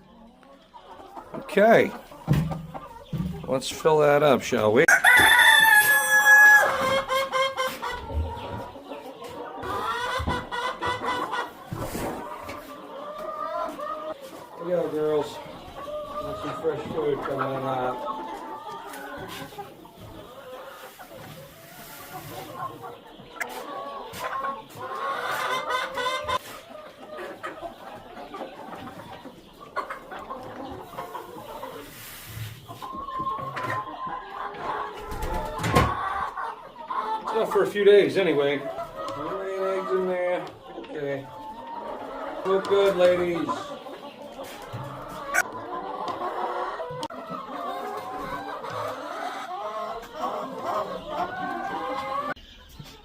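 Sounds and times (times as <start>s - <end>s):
hens clucking and calling: 0.0s - 53.0s.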